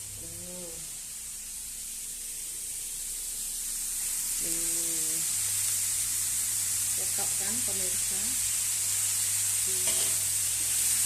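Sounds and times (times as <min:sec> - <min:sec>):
paste sizzling in a frying pan: 0:00.8 - 0:11.0.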